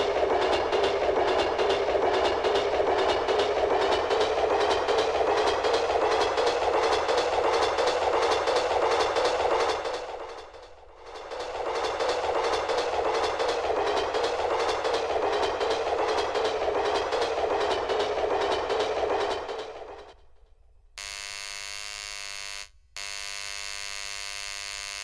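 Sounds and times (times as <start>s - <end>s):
train rumble with clickety-clack: 0.0s - 21.0s.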